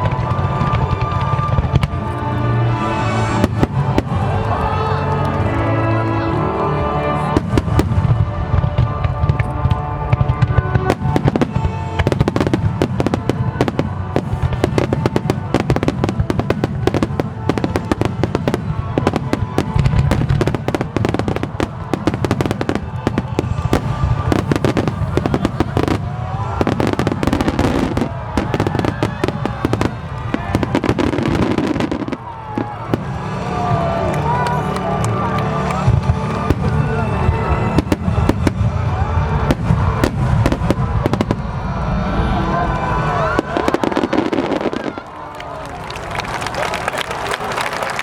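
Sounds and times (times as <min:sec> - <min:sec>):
fireworks exploding and crackling: 0:00.0 - 0:48.0
music: 0:00.0 - 0:48.0.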